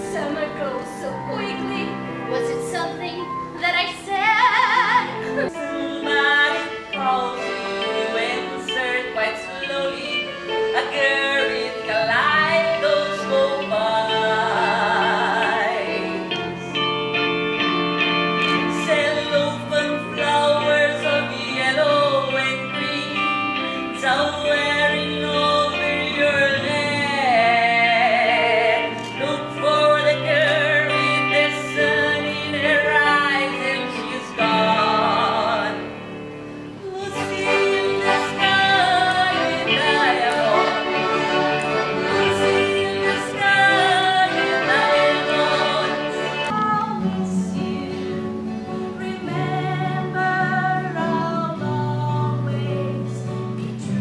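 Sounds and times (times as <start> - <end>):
woman singing with vibrato: 0.0 - 17.1, 18.4 - 36.2, 36.8 - 54.0
live instrumental accompaniment: 0.0 - 54.0.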